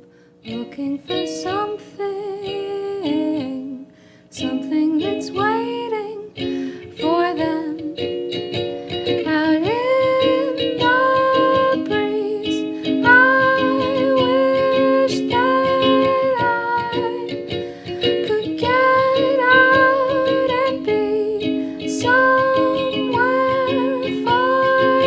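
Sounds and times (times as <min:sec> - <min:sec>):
ukulele playing: 0:00.0 - 0:25.0
woman singing: 0:00.4 - 0:08.2, 0:09.1 - 0:25.0.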